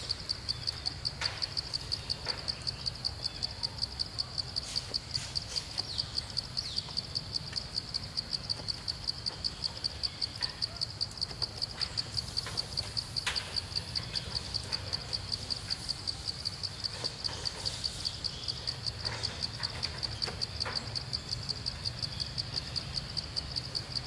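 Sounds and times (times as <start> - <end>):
insect pulsing trill: 0.0 - 24.0.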